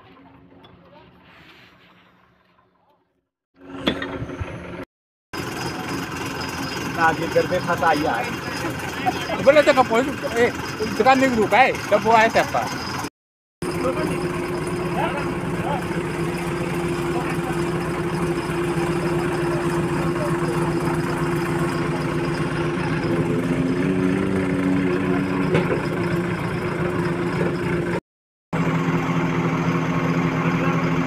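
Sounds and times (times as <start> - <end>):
diesel engine running: 3.6 - 31.0.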